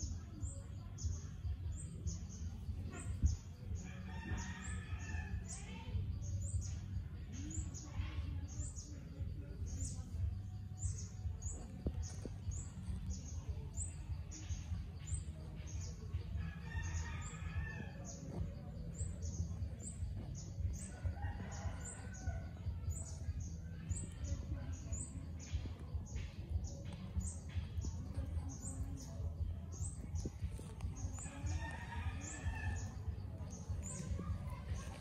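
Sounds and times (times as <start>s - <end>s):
steady low rumble: 4.7s - 35.0s.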